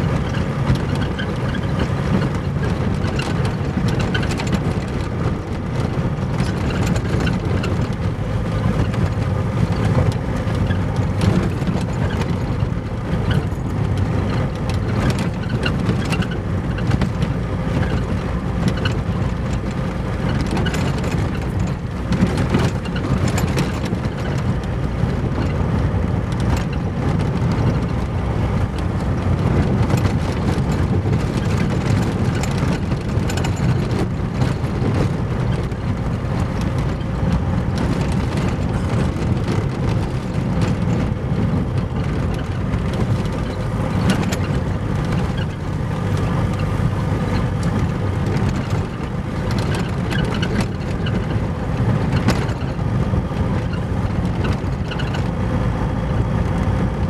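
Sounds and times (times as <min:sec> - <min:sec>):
car jolting knocks and clatters: 0:00.0 - 0:55.4
tyres rumbling on gravel: 0:00.0 - 0:57.0.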